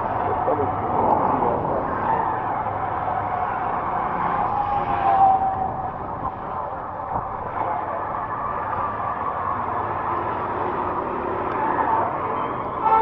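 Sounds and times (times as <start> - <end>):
vehicle and road noise: 0.0 - 13.0.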